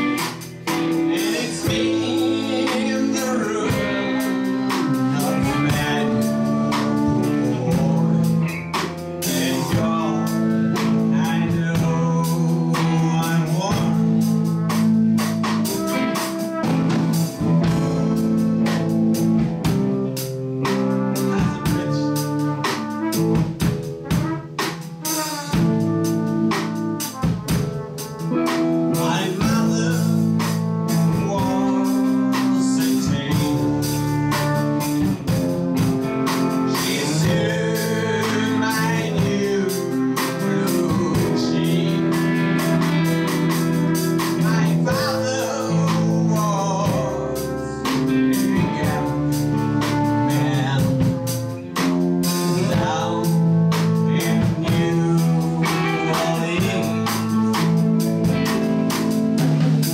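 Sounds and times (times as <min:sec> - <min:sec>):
band music: 0:00.0 - 0:59.9
person singing: 0:00.0 - 0:59.9.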